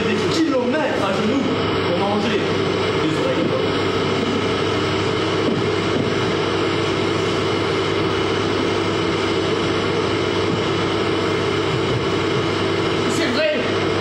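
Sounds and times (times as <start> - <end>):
steady machine drone: 0.0 - 14.0.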